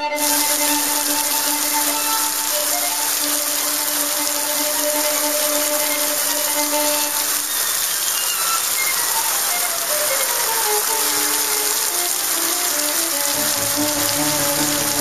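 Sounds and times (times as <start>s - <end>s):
heavy rain on water and wood: 0.0s - 15.0s.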